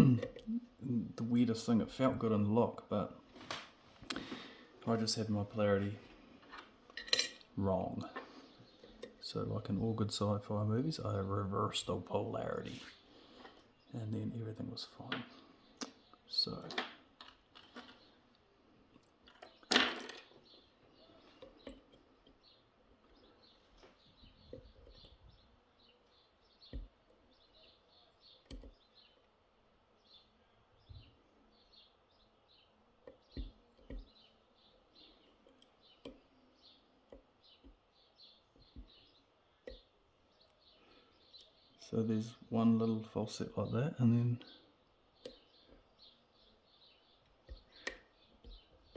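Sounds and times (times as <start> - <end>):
birds chirping: 4.0 - 48.9.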